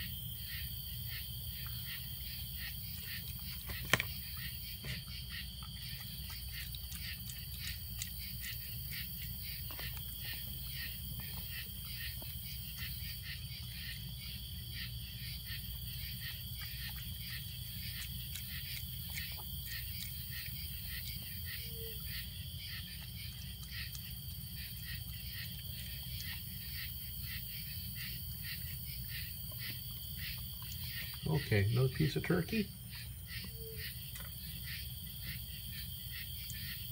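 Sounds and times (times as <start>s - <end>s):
night insects chirping: 0.0s - 36.9s.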